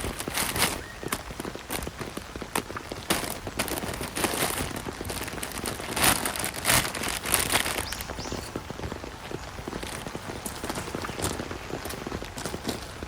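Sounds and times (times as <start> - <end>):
rain patter on hard surface: 0.0 - 13.0.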